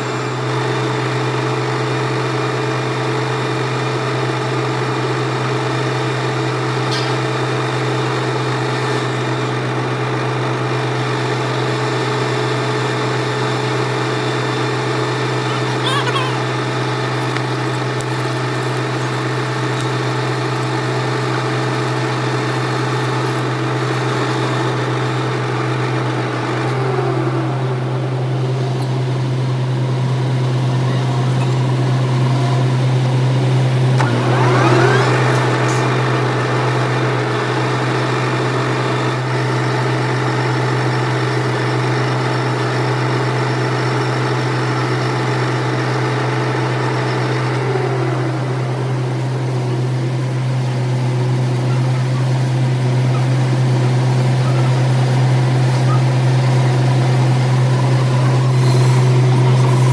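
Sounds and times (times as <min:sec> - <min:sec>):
metal lathe humming: 0:00.0 - 0:59.9.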